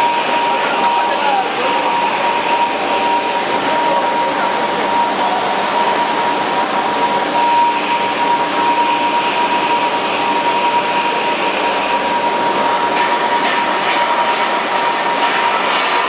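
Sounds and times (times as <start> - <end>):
factory machinery whine: 0.0 - 16.0.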